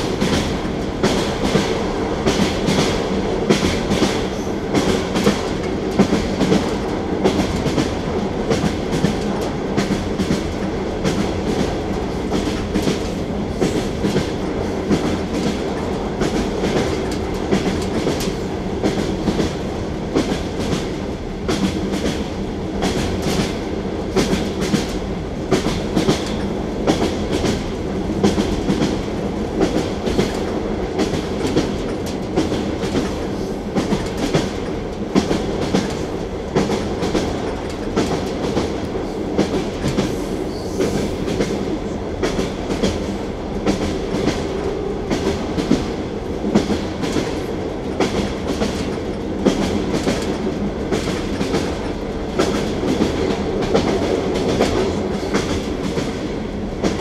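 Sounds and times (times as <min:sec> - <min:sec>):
train carriage rumble and hum: 0:00.0 - 0:57.0
wheels clickety-clack on rail joints: 0:00.0 - 0:57.0.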